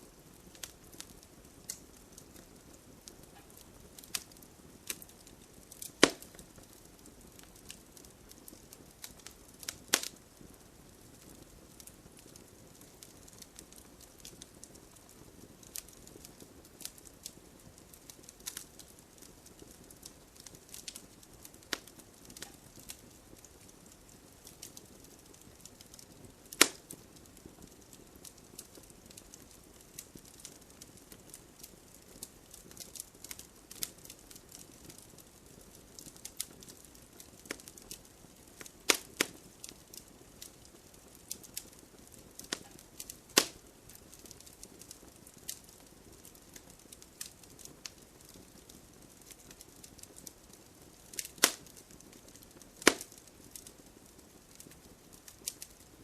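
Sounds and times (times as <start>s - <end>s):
fire hissing: 0.0s - 17.2s, 24.4s - 53.8s
campfire crackling and popping: 0.0s - 56.0s.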